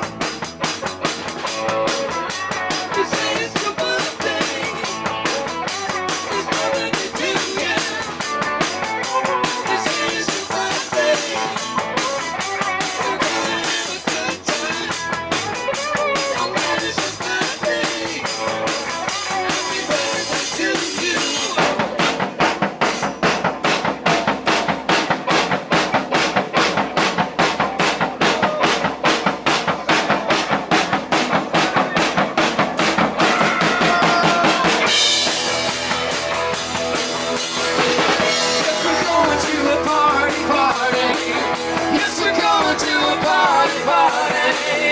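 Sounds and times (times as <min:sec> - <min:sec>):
drum kit fast beat: 0:00.0 - 0:44.9
rock band playing: 0:00.0 - 0:44.9.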